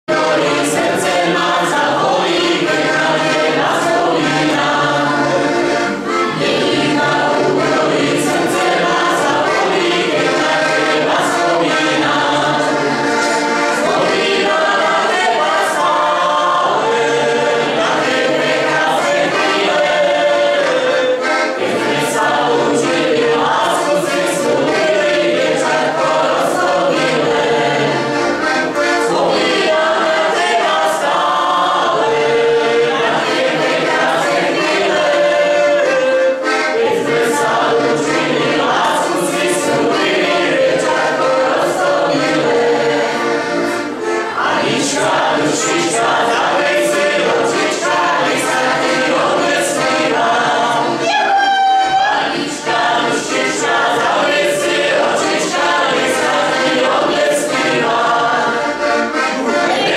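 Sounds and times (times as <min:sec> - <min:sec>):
accordion: 0:00.0 - 0:59.9
group singing in harmony: 0:00.0 - 0:59.9.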